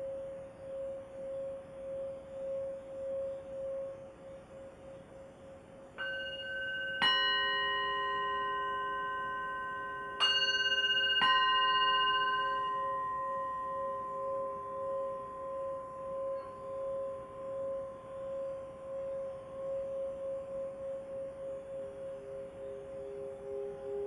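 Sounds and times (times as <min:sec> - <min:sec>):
singing bowl ringing: 0:00.0 - 0:05.3, 0:06.0 - 0:24.0.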